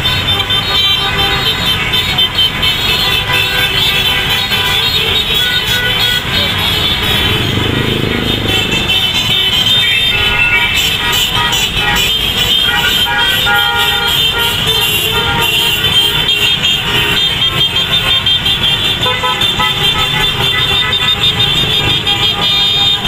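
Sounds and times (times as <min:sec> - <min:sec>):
motorcycle horns beeping: 0:00.0 - 0:23.0
motorcycles and cars passing: 0:00.0 - 0:23.0.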